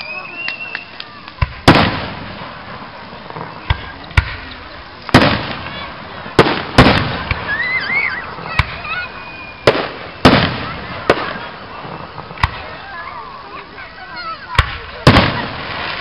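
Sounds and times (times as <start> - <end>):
fireworks bursting with rumbling tail: 0.0 - 16.0.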